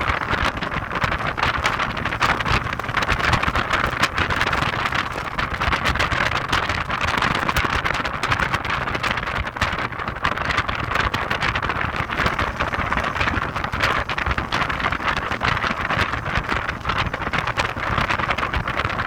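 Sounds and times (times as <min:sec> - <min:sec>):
car road noise: 0:00.0 - 0:19.0
wind buffeting on microphone: 0:00.0 - 0:19.0.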